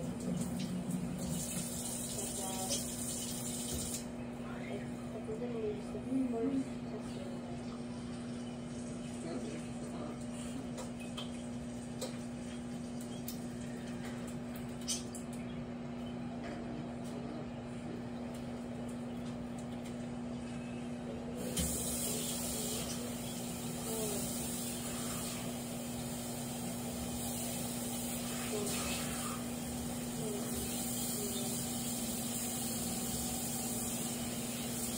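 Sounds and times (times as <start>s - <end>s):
microwave oven humming: 0.0s - 34.9s.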